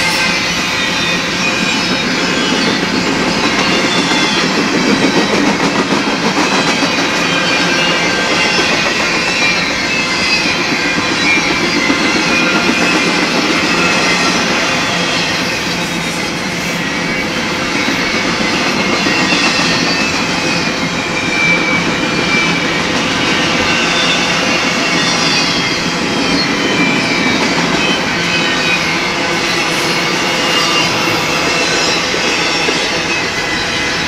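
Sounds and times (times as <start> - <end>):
high wheel squeals: 0.0 - 34.0
steel wheels rumbling on rail: 0.0 - 34.0.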